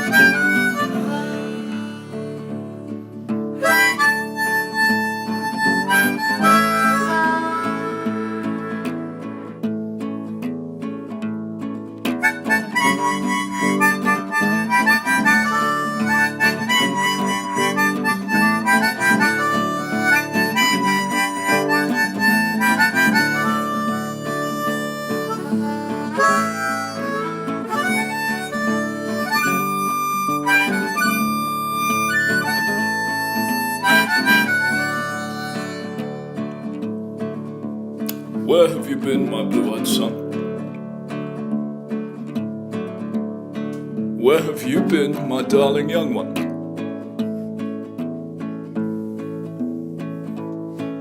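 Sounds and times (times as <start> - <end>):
harmonica melody: 0.0 - 10.4, 12.1 - 51.0
acoustic guitar accompaniment: 0.0 - 51.0.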